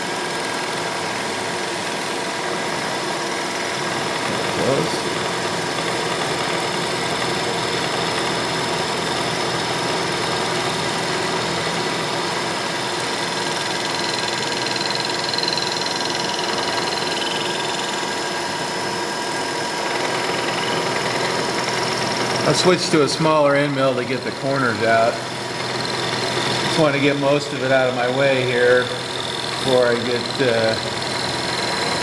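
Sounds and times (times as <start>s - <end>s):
motor hum: 2.7s - 32.0s
end mill cutting plastic: 4.0s - 32.0s.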